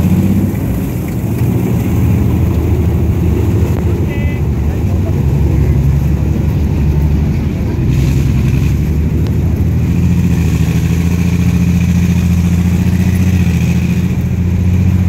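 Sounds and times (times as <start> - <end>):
tracked vehicle diesel engine drone: 0.0 - 15.0.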